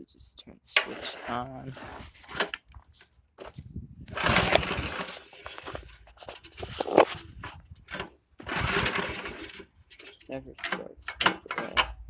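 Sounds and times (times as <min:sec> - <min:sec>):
snowblower engine cranking: 0:00.7 - 0:12.0.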